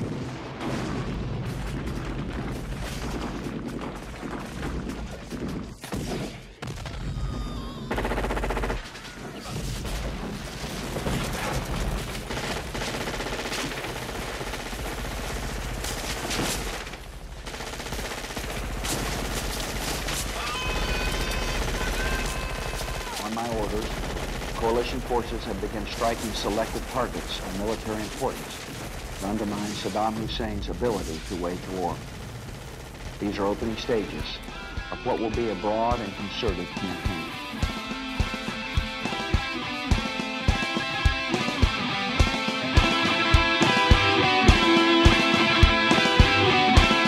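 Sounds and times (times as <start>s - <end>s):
rapid gunfire: 0.0s - 7.2s, 7.9s - 47.0s.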